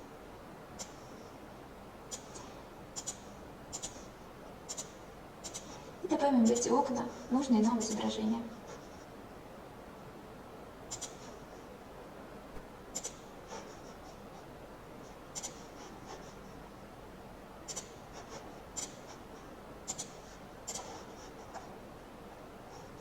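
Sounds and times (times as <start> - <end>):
faint room hiss: 0.0 - 23.0.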